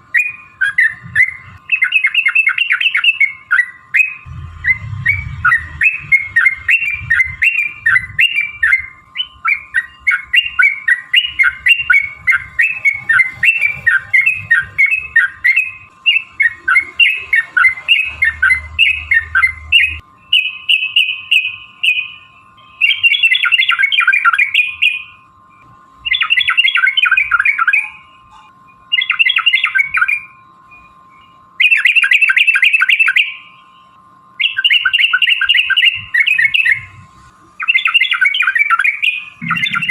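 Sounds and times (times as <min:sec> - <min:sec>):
faint steady hum: 0:00.0 - 0:39.9
bird chirping phrases: 0:00.1 - 0:25.2, 0:26.1 - 0:39.9.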